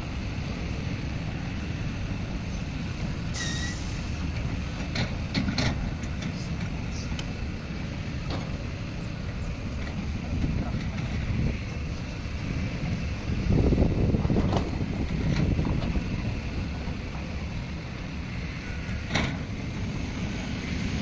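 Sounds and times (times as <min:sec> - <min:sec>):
diesel engine low rumble: 0:00.0 - 0:21.0.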